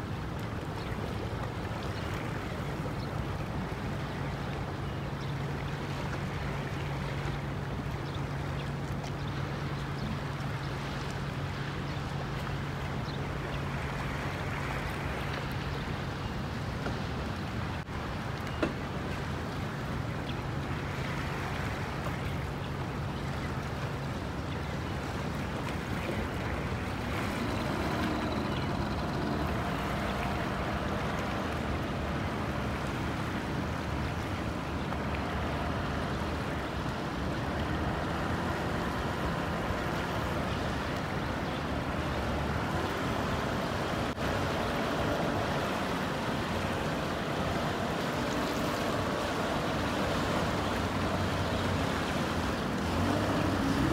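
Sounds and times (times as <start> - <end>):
boat engine droning: 0.0 - 53.9
water noise: 0.0 - 53.9
wind: 0.0 - 53.9.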